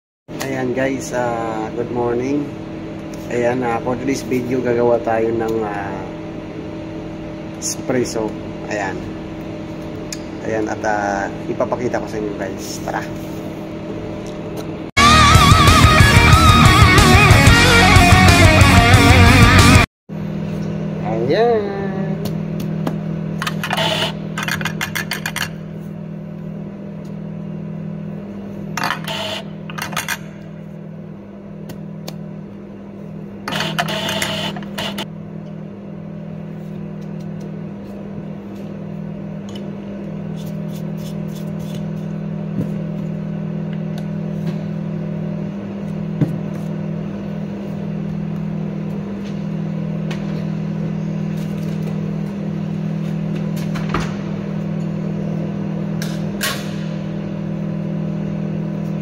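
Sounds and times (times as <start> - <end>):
low machine hum: 0.3 - 59.0.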